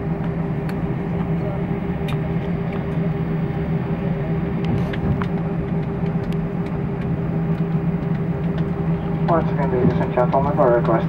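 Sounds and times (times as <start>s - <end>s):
jet engines heard in cabin: 0.0s - 11.0s.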